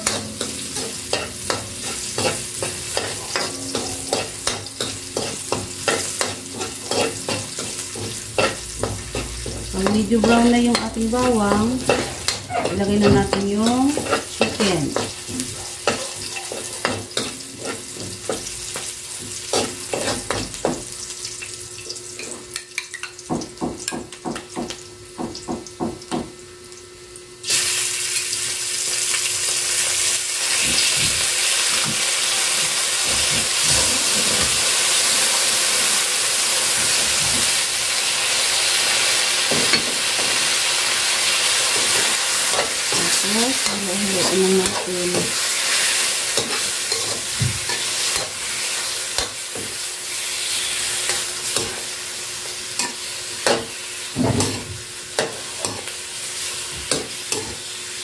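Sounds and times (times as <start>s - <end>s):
garlic and onion frying: 0.0s - 58.0s
loud steady sizzle: 0.0s - 58.0s.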